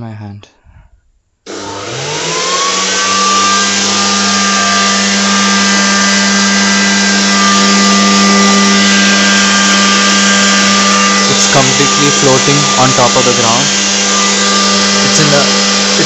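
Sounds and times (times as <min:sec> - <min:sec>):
electric motor and fan whining: 0:01.5 - 0:16.0.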